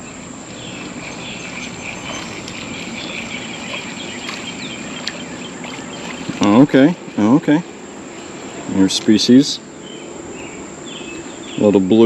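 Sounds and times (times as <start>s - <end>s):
insects chirping: 0.0s - 12.0s
outdoor hiss: 0.0s - 12.0s.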